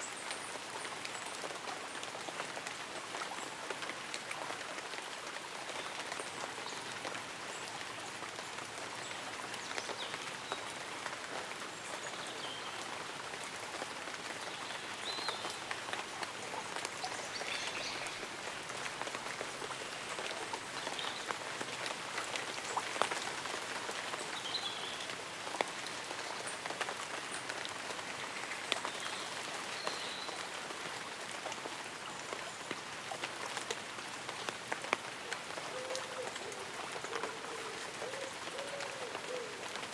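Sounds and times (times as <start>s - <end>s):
light rain on leaves and umbrella: 0.0s - 39.9s.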